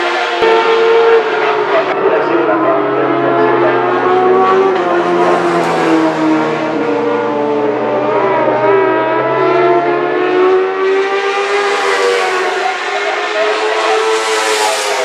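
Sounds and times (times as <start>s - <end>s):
racing engines at high revs: 0.0s - 15.0s.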